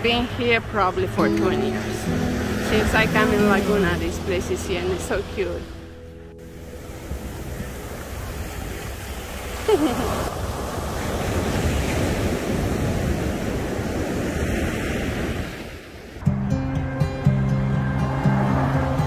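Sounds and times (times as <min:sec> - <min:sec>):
ocean surf breaking: 0:00.0 - 0:16.3, 0:17.3 - 0:19.0.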